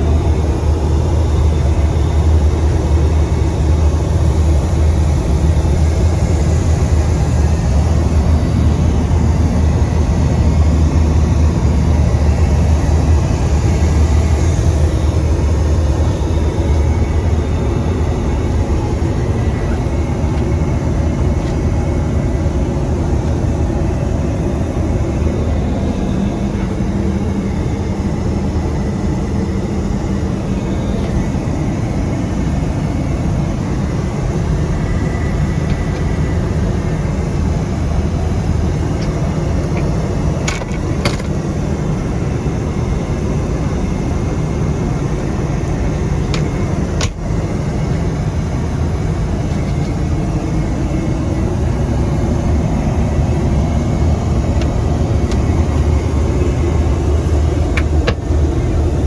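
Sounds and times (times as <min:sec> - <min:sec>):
jetliner engine rumble and rush: 0:00.0 - 0:59.0.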